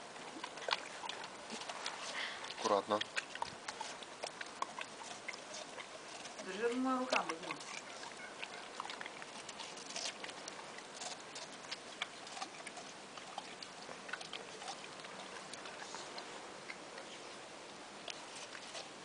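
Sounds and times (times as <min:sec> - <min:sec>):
low hiss: 0:00.0 - 0:19.0.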